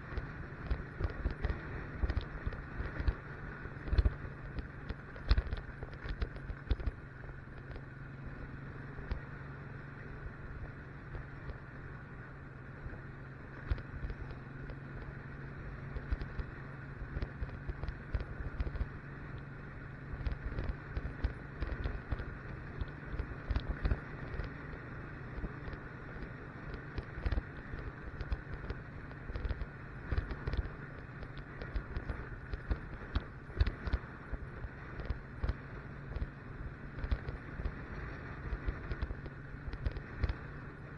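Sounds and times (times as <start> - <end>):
motorcycle engine running: 0.0 - 40.9
wind rumbling on microphone: 0.0 - 40.9.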